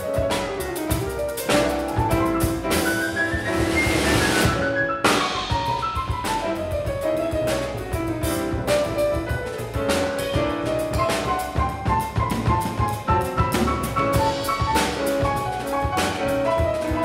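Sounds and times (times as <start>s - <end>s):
drum kit with cymbal hits: 0.0s - 17.0s
grand piano melody: 0.0s - 17.0s
upright double bass: 0.0s - 17.0s.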